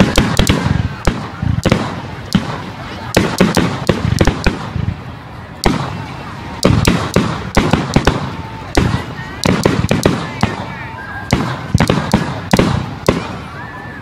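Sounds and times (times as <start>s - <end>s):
fireworks bangs and crackling pops: 0.0s - 13.6s.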